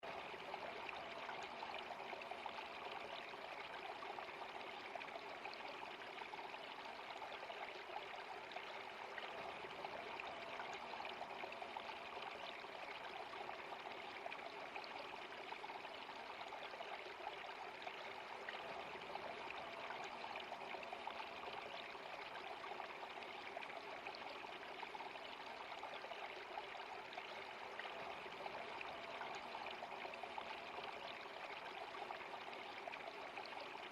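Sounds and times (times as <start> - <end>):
stream of water running: 0.0 - 33.9.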